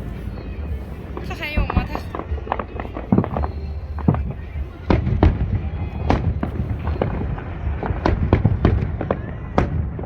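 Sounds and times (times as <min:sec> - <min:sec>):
fireworks bangs and cracks: 0:00.0 - 0:10.0
low rumble: 0:00.0 - 0:10.0.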